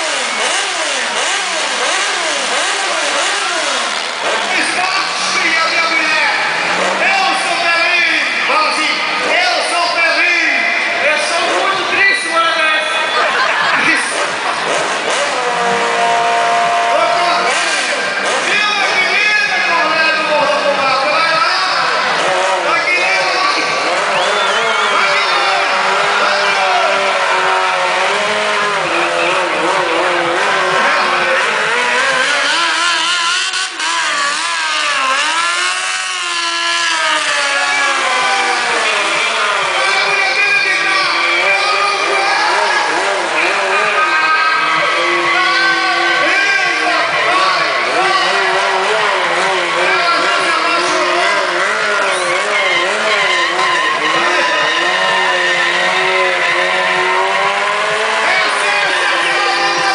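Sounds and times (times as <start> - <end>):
motorcycle engine revving: 0.0 - 12.0, 12.6 - 59.9
tires squealing on tarmac: 0.0 - 59.9.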